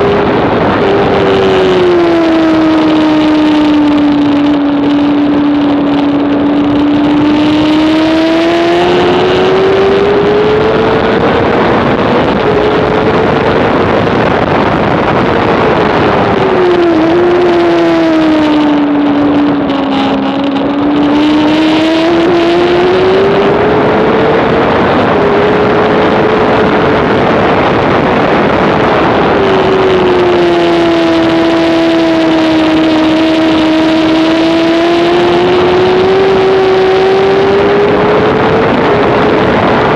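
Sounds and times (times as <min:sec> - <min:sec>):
constant rush of noise: 0:00.0 - 0:39.9
motorcycle engine revving high: 0:00.0 - 0:39.9.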